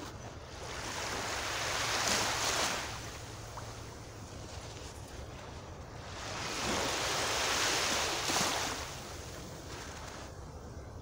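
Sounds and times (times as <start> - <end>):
small waves washing onto sand: 0.0 - 10.4
wave splashing: 0.0 - 10.4.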